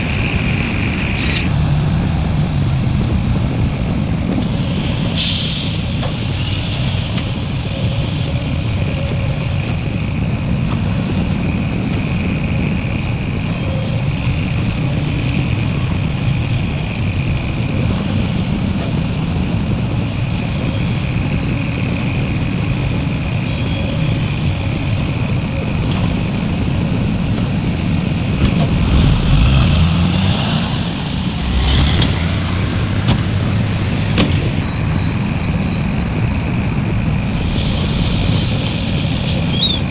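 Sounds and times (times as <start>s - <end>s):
diesel machinery engine: 0.0s - 39.9s.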